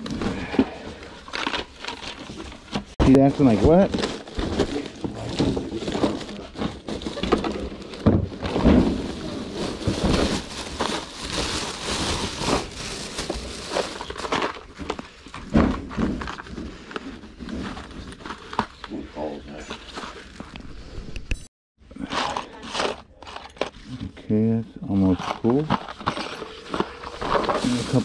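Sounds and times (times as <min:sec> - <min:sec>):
objects rustling and crinkling: 0:00.0 - 0:21.0, 0:22.0 - 0:28.0.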